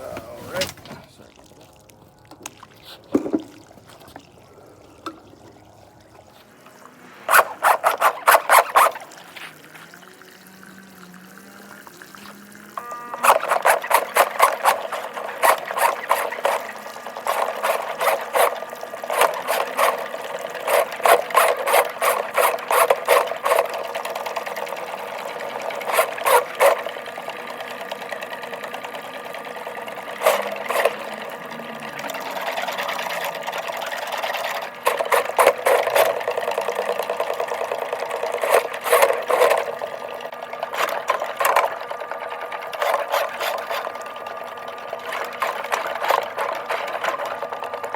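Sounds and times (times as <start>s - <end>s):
drain cleaning machine running: 0.0s - 47.9s
cable clattering and rattling: 5.0s - 10.0s, 13.2s - 47.9s.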